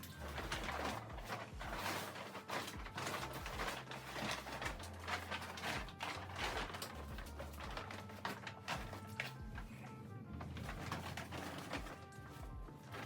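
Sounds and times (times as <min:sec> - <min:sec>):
faint background music: 0:00.0 - 0:13.0
knocks and clatter of handling: 0:00.0 - 0:13.0.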